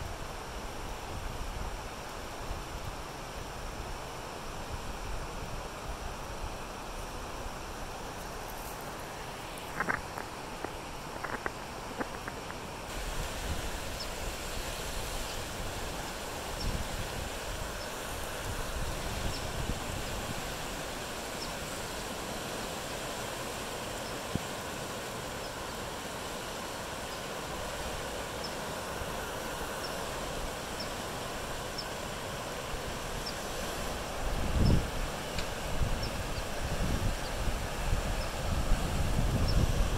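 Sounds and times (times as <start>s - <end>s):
fast-flowing creek water: 0.0s - 39.9s.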